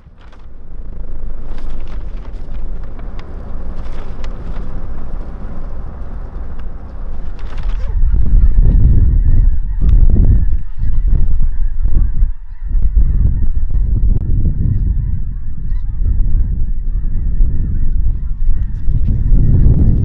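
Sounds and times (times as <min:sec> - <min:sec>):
wind rumble on microphone: 0:00.0 - 0:20.0
geese honking: 0:01.1 - 0:19.7.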